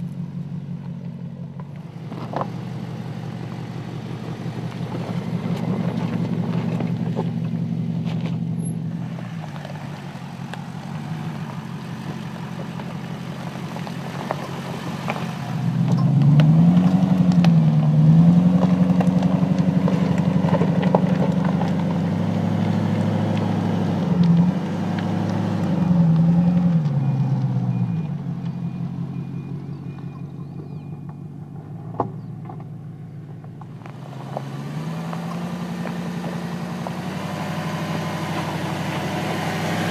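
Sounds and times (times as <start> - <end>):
car engine driving slowly: 0.0 - 39.9.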